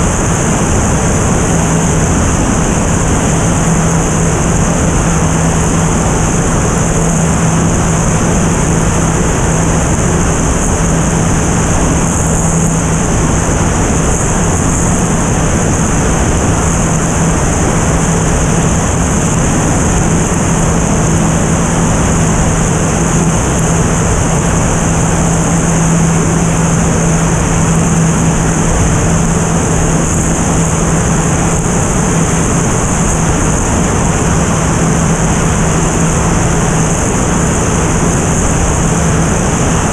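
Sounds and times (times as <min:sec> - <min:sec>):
airplane engine and propeller drone: 0:00.0 - 0:39.9
wind rush over microphone: 0:00.0 - 0:39.9.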